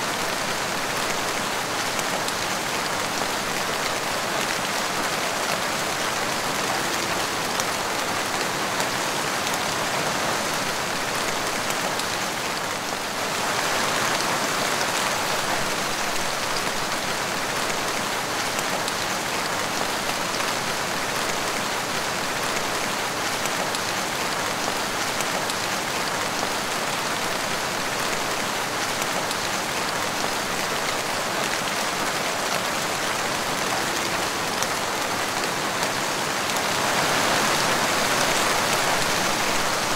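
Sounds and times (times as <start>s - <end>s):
rain on tiled floor: 0.1s - 39.9s.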